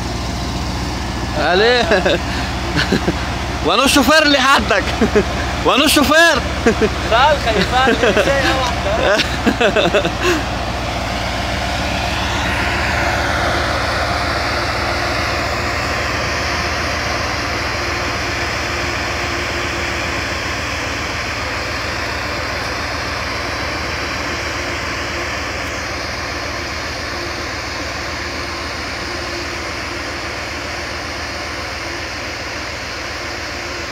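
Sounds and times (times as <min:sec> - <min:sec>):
truck engine droning: 0:00.0 - 0:33.9.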